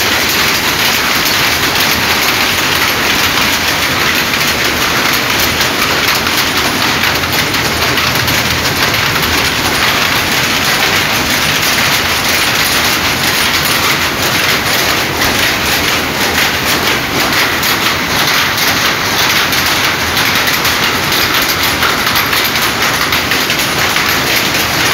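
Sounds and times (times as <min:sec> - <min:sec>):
powerlooms clattering: 0:00.0 - 0:24.9.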